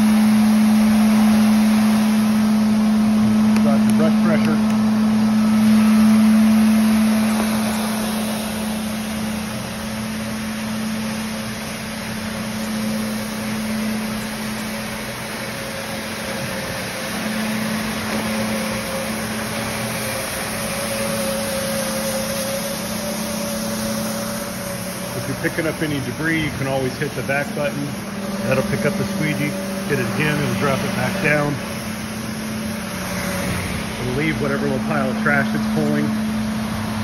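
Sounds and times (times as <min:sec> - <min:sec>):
floor scrubber motor hum: 0:00.0 - 0:37.0
high whine: 0:00.0 - 0:37.0
scrubbing brushes and vacuum: 0:00.0 - 0:37.0.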